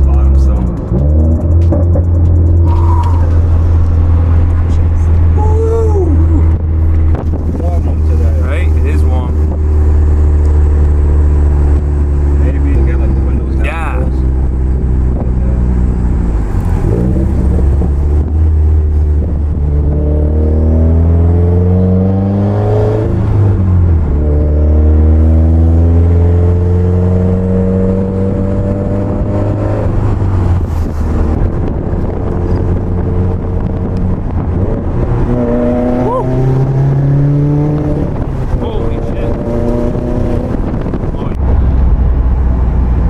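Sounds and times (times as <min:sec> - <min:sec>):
car engine accelerating hard: 0:00.0 - 0:43.0.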